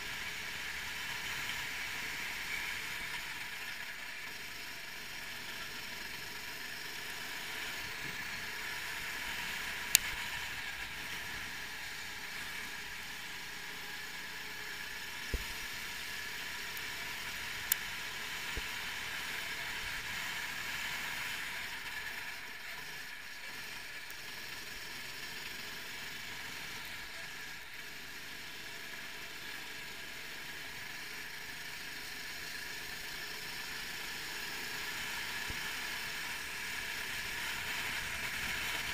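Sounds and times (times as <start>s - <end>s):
kart engine droning: 0.0s - 38.9s.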